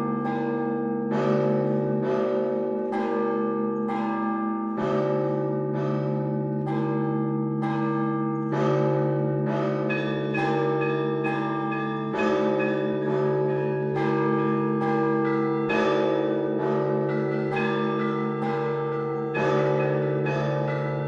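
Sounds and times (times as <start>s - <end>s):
small church bells ringing: 0.0s - 21.0s.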